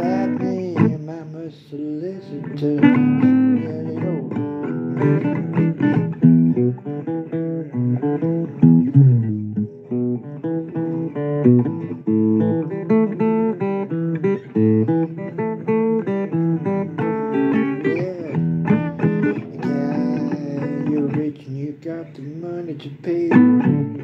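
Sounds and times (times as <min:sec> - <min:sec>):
blues guitar playing: 0:00.0 - 0:24.0.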